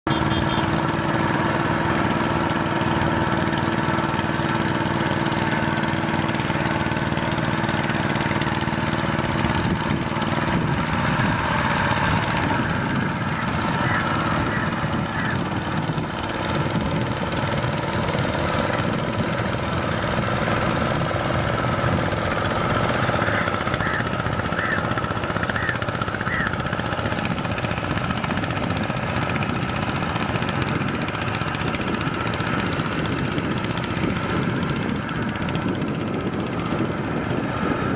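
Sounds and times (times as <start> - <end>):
farm machine engine chugging: 0.1 - 37.9.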